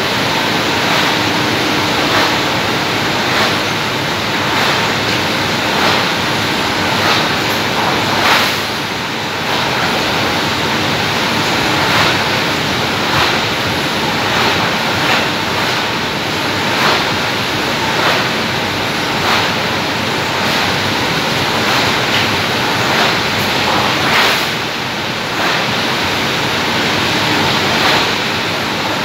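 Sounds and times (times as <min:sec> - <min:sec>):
conveyor clacking: 0:00.0 - 0:29.0
loud rushing machine noise: 0:00.0 - 0:29.0.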